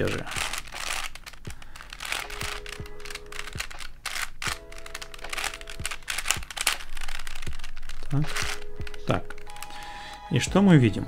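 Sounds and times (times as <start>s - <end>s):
puzzle layers clicking: 0.0s - 10.2s.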